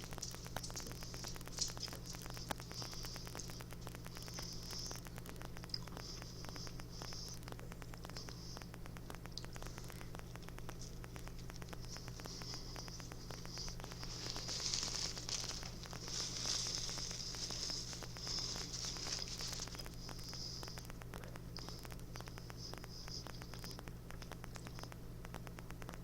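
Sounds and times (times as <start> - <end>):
crackling and rustling: 0.0 - 26.0
low electrical hum: 0.0 - 26.0
scattered clicks: 0.0 - 26.0.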